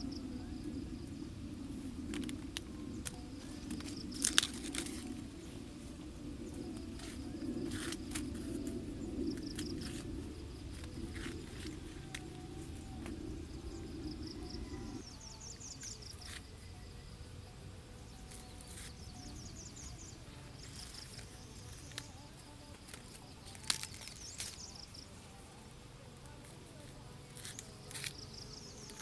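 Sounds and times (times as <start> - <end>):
low hum: 0.0 - 25.6
insects chirping: 0.0 - 29.0.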